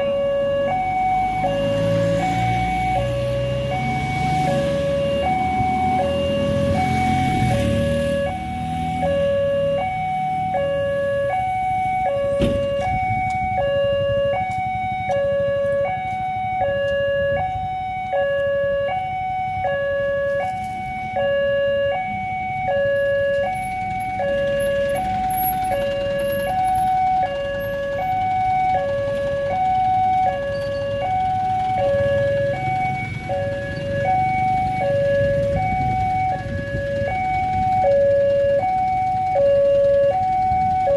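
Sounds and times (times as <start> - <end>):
level crossing alarm two-tone: 0.0 - 40.9.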